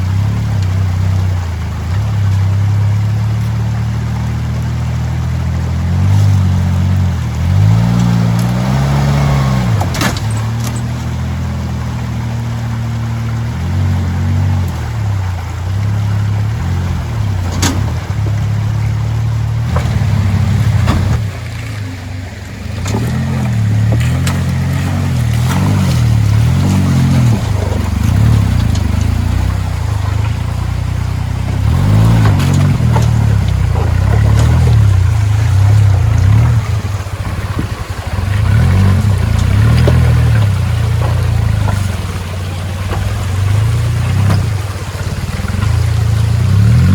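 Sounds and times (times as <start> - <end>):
engine revving under load: 2.8 - 46.9.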